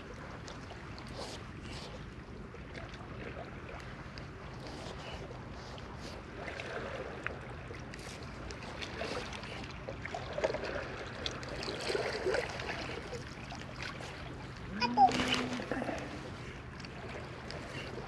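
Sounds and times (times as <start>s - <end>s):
small water splashes: 0.0s - 18.0s
water lapping around rocks: 0.0s - 18.0s.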